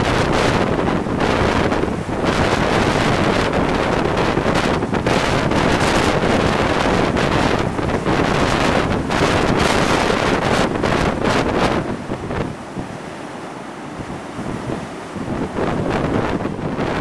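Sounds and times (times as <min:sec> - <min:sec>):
gale wind buffeting microphone: 0:00.0 - 0:17.0
waves breaking around pier: 0:00.0 - 0:17.0.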